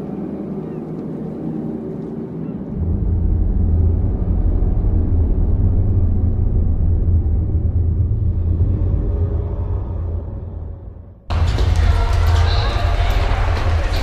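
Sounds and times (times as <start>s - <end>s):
soft steady drone: 0.0s - 11.5s
deep low cinematic rumble: 0.0s - 14.0s.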